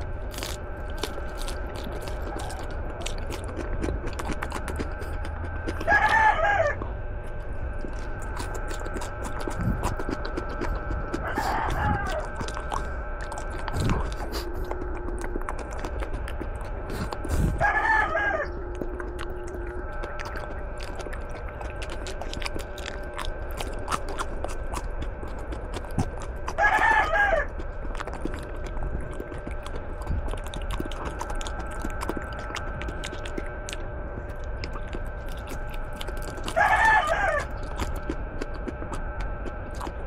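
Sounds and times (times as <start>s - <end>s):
chewing leaves crunchily: 0.0s - 40.0s
faint steady hum: 0.0s - 40.0s.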